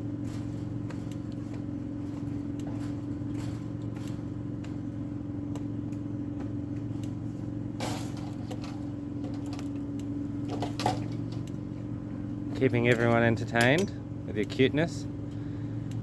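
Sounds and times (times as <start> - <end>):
steady engine hum: 0.0 - 16.0.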